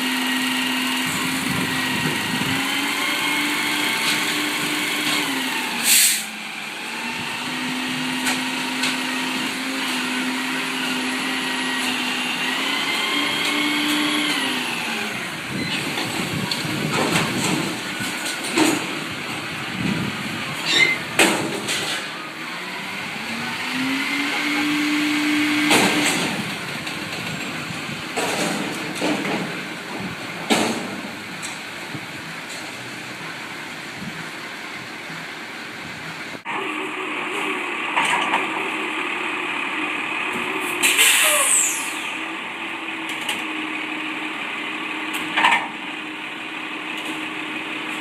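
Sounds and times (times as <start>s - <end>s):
garbage truck engine revving: 0.0s - 48.0s.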